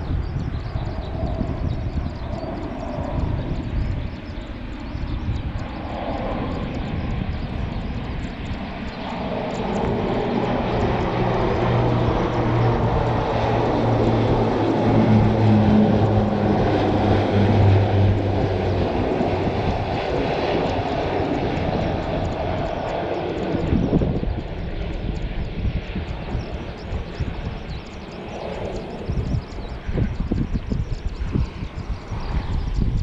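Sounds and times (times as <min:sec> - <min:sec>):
plane flying past: 0:00.0 - 0:33.0.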